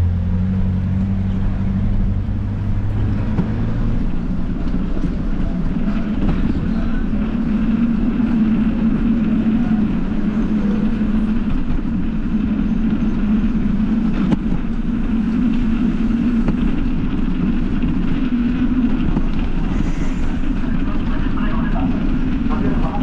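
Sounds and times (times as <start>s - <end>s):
bike road noise: 0.0s - 23.0s
wind on microphone: 0.0s - 23.0s.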